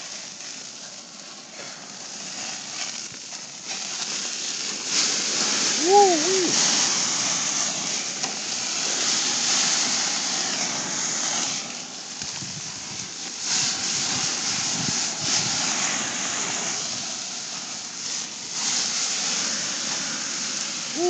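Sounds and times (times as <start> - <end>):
burgers sizzling on a grill: 0.0 - 21.0.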